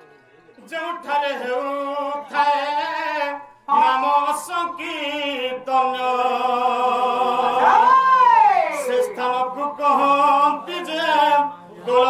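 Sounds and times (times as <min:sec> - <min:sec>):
person singing folk melody: 0:00.0 - 0:12.0.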